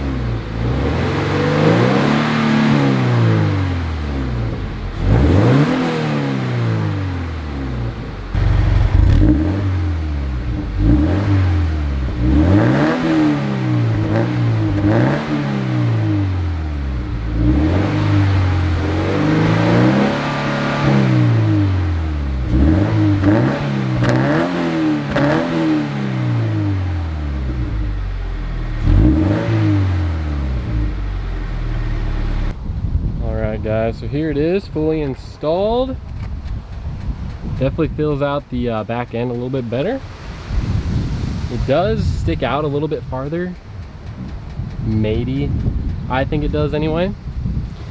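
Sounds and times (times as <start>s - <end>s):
car engine revving: 0.0s - 32.6s, 35.5s - 47.9s.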